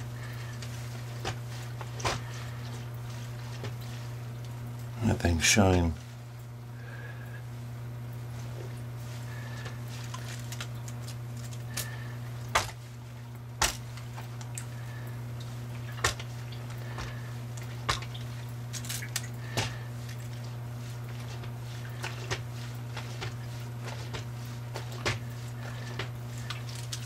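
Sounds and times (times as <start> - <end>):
water sloshing in a sink: 0.0 - 5.0, 6.0 - 27.0
steady low hum: 0.0 - 27.0.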